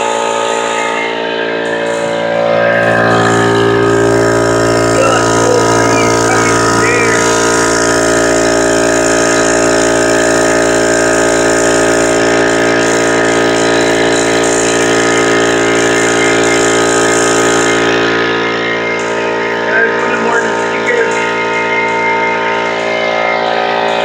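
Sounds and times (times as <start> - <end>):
air compressor running: 0.0 - 24.0.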